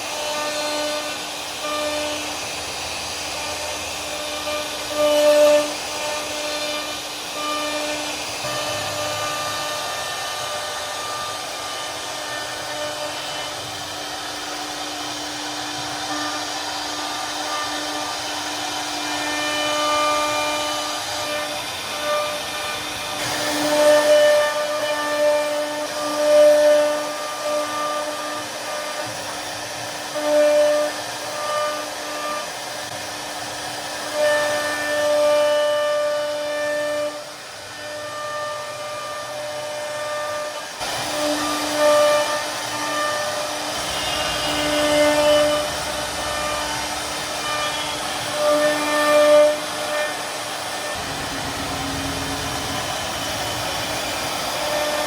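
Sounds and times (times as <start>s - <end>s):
bit cutting wood hiss: 0.0s - 55.0s
router spindle whine: 0.0s - 55.0s.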